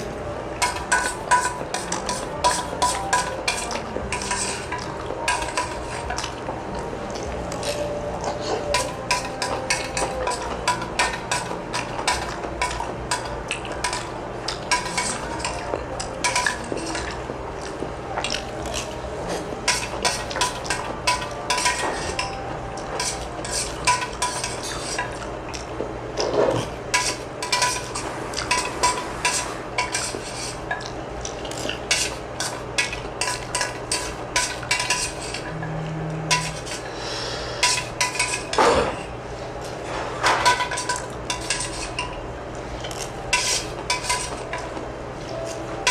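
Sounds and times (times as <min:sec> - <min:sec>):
utensils clinking against bowls: 0:00.0 - 0:45.9.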